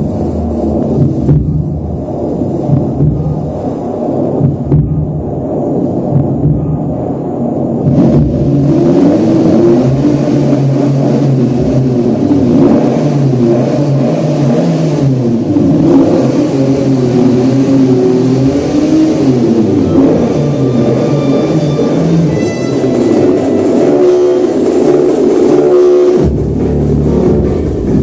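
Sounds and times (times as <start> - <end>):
sports car engine revving: 0.0 - 28.0.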